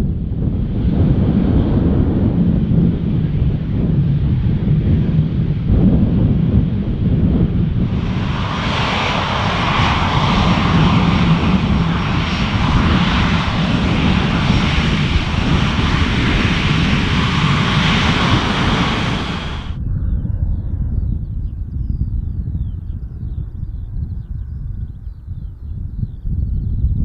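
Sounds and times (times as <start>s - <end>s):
jet engines rushing with whine: 0.0s - 26.9s
wind buffeting microphone: 0.0s - 27.0s.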